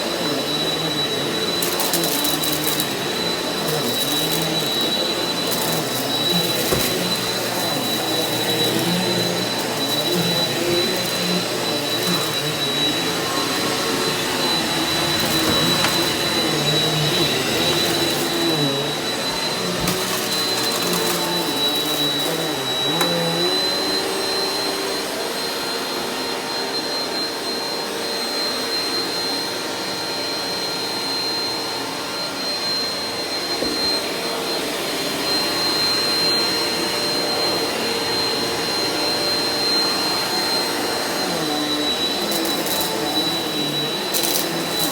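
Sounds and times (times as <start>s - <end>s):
upright vacuum running on carpet: 0.0s - 44.9s.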